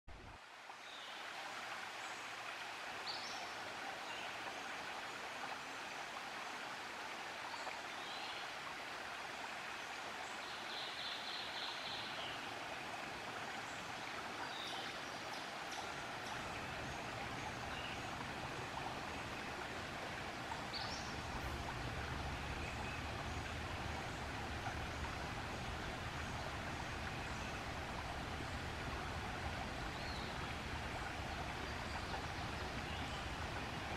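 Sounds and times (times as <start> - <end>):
shallow stream running: 0.1 - 33.9.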